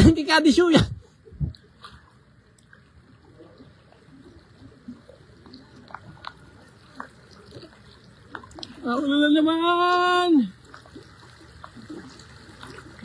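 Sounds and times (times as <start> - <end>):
floodwater flowing: 0.0 - 13.0
small splashes and clicks: 1.5 - 9.1, 9.9 - 13.0.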